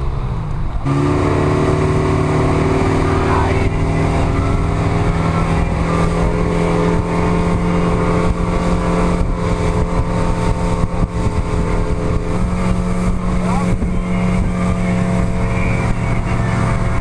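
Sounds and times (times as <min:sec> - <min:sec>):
engine running steadily: 0:00.0 - 0:17.0
rushing noise: 0:00.0 - 0:17.0.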